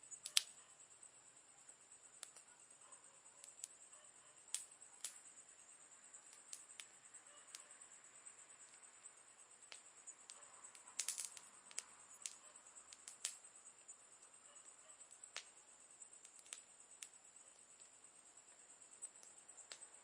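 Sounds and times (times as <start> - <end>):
campfire crackling: 0.0 - 20.0
faint high hiss: 0.0 - 20.0.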